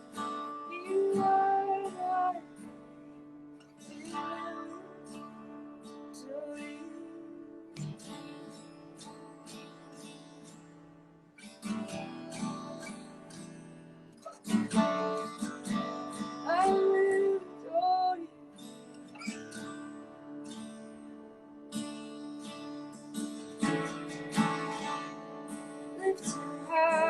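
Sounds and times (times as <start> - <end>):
strummed acoustic guitar: 0.0 - 27.0.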